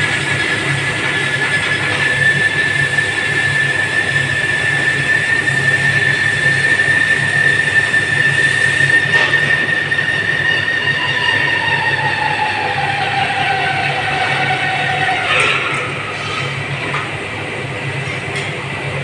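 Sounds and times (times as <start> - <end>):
machine metallic squeal: 0.0 - 18.3
lower whine sliding down: 1.7 - 18.0.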